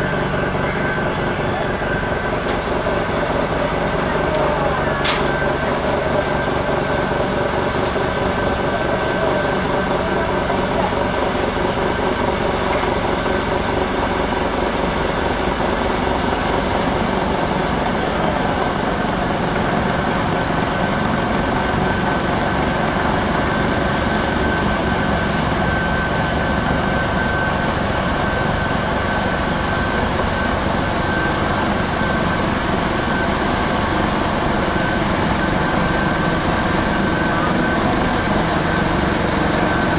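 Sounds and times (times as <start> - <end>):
high whine: 0.0 - 39.9
snow blower engine running: 0.0 - 39.9.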